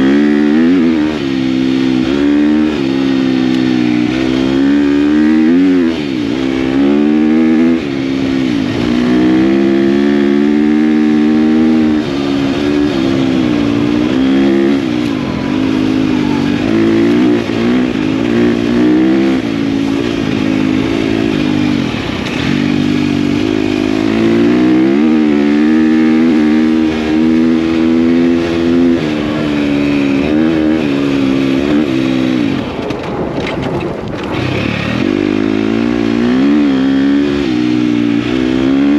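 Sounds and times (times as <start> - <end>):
dirt bike engine under load: 1.7 - 37.5.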